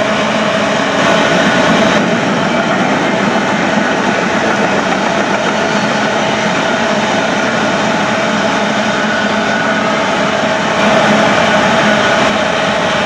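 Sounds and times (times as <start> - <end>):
freight train rumbling past: 0.0 - 13.0
wheels on rail track: 0.0 - 13.0.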